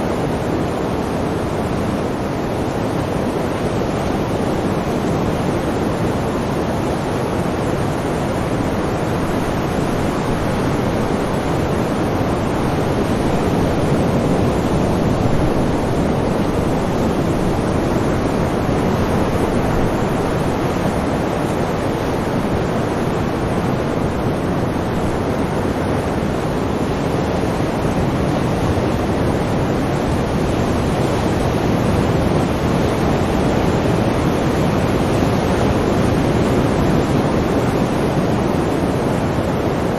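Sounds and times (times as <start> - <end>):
sea waves rushing: 0.0 - 39.9.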